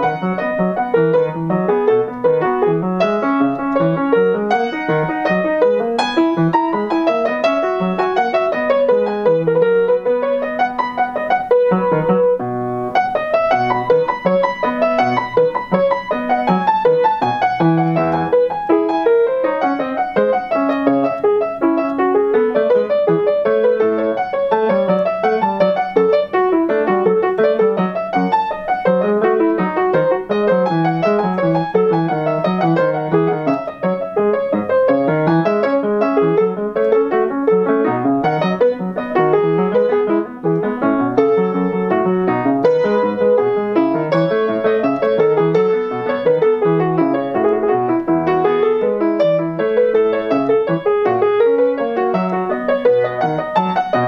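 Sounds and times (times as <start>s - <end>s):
solo piano music: 0.0s - 54.0s.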